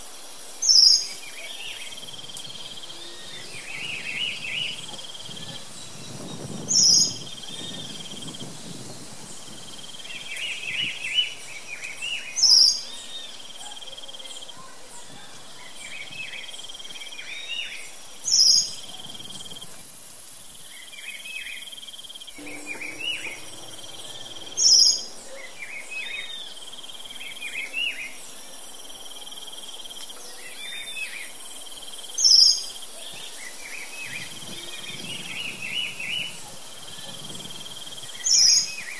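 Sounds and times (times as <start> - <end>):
crickets chirping: 0.0 - 38.9
songbirds chirping: 0.0 - 38.9.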